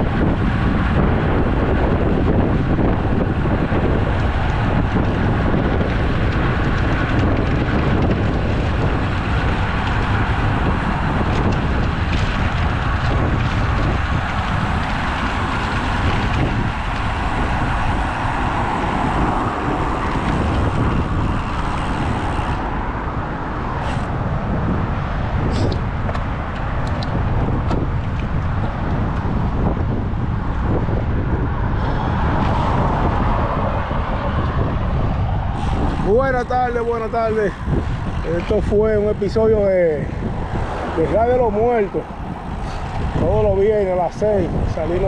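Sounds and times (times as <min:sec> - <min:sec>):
road noise: 0:00.0 - 0:45.0
wind rushing over microphone: 0:00.0 - 0:45.0.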